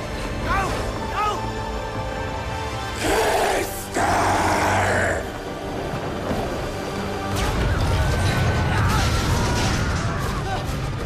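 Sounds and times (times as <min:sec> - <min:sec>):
action film score: 0:00.0 - 0:11.0.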